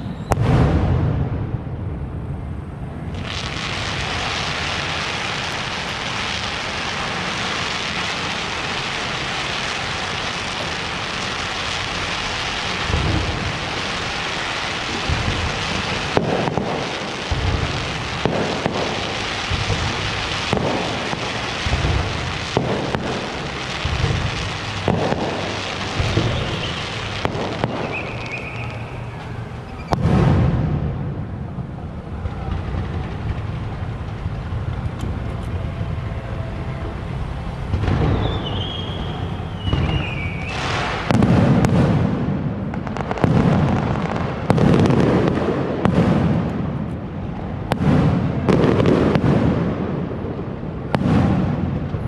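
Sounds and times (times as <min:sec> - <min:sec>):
fireworks crackling: 0:00.0 - 0:52.0
deep booms of firework shells: 0:00.1 - 0:02.1, 0:03.1 - 0:28.8, 0:29.8 - 0:34.7, 0:37.6 - 0:52.0.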